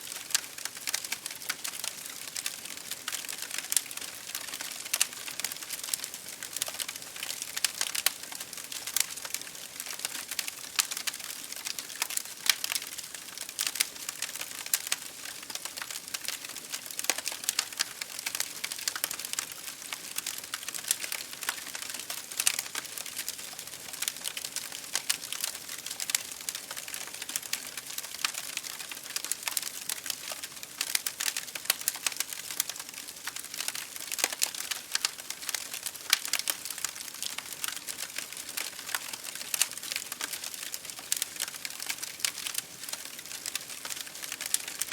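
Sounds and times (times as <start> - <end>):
campfire crackling and popping: 0.1 - 44.9.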